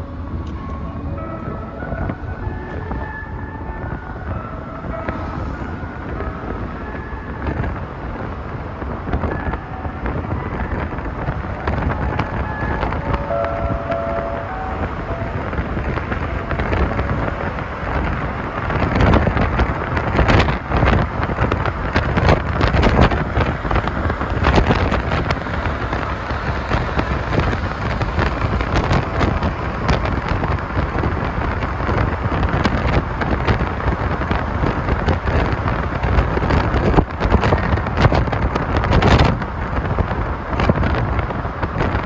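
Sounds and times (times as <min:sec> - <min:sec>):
road and vehicle rumble: 0:00.0 - 0:42.0
wind buffeting microphone: 0:00.0 - 0:42.0.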